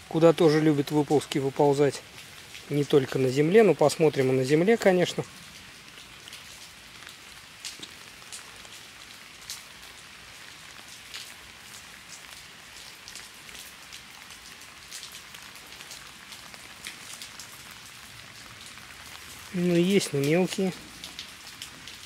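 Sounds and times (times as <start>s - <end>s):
heavy rain: 0.0s - 22.0s
raindrops ticking close by: 0.0s - 22.0s.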